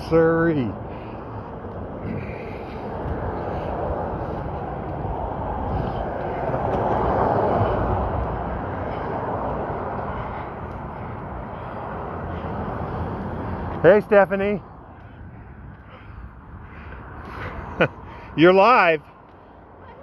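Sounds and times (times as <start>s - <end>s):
vehicle tyre and road noise: 0.0s - 20.0s.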